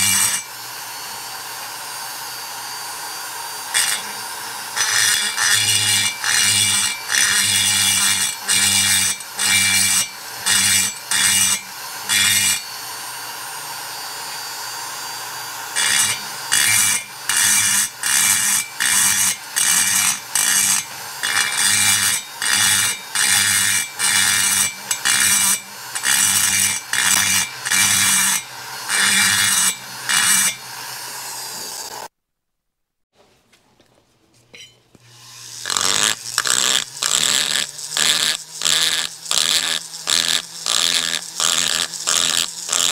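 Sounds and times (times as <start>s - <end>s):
rotary grinder grinding metal: 0.0s - 32.1s, 35.0s - 42.9s.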